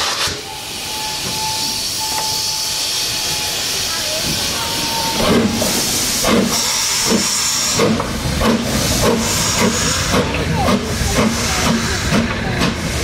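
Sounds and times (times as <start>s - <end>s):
steam hissing: 0.0s - 13.0s
steam locomotive chuffing: 0.0s - 13.0s.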